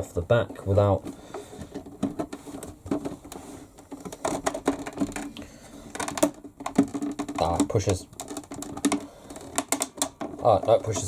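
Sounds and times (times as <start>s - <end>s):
hard plastic clicking and knocking: 0.0s - 11.0s.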